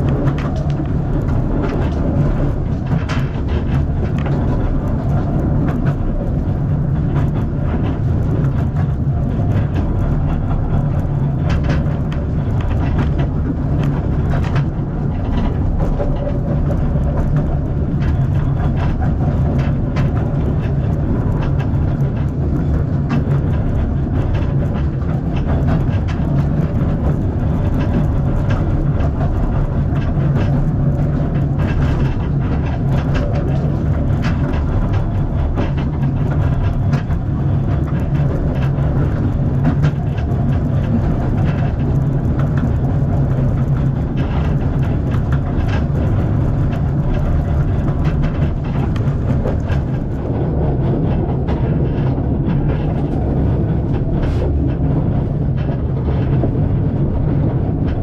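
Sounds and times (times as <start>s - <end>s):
train carriage rumbling: 0.0s - 58.0s
wheel clicks and knocks: 0.0s - 58.0s.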